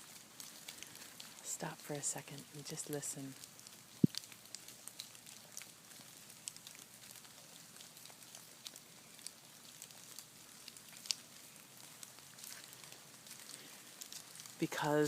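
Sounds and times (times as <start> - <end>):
rain drops hitting leaves: 0.0 - 15.0.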